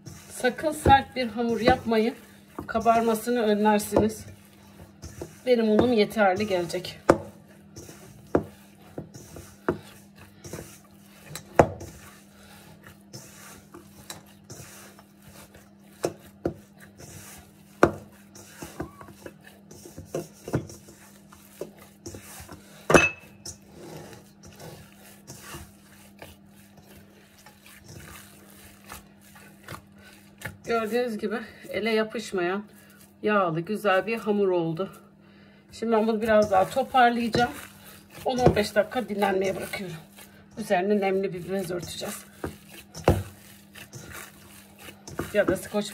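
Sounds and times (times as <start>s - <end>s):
hands kneading dough: 0.0s - 45.9s.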